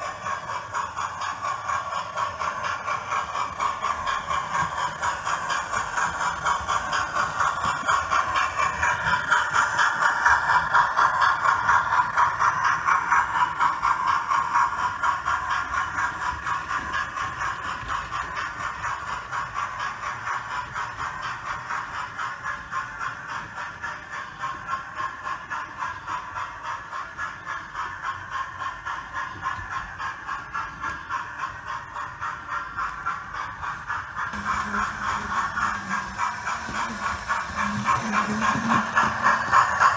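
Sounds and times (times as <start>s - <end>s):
model train running noise: 0.0s - 39.9s
model train wheels clicking: 0.0s - 39.9s.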